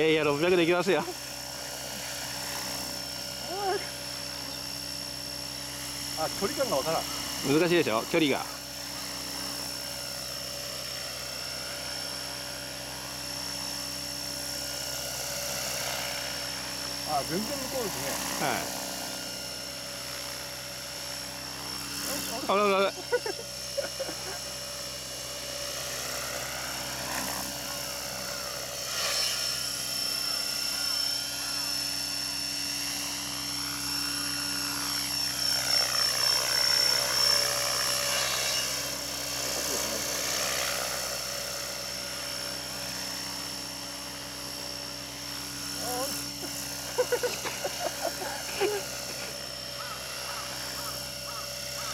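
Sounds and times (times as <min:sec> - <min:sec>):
electric motor whine: 0:00.0 - 0:51.9
rotor blades buzzing: 0:00.0 - 0:51.9.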